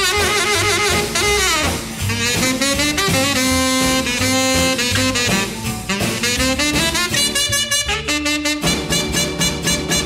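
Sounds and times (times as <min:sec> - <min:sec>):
bass and drum beat: 0:00.0 - 0:10.0
saxophone lead: 0:00.0 - 0:10.0.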